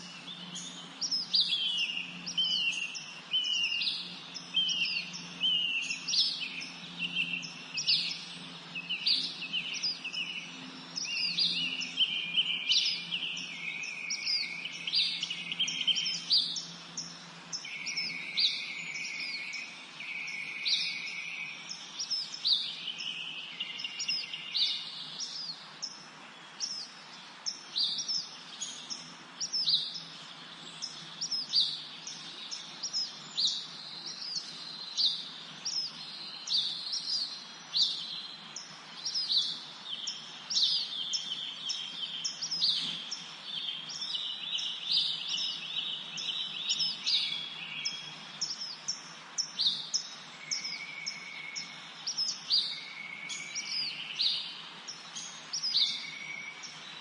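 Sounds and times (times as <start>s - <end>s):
songbirds chirping: 0.0s - 57.0s
trilling bird songs: 0.0s - 57.0s.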